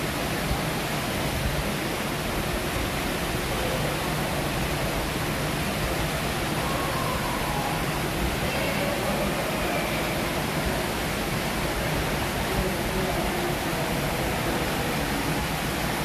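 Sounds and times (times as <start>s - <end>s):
rushing water system: 0.0s - 16.0s.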